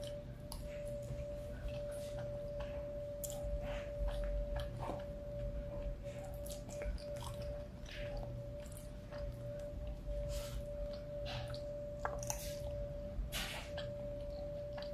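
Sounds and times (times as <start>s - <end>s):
mouth chewing with wet smacks: 0.0s - 12.8s
faint steady hum: 0.0s - 14.9s.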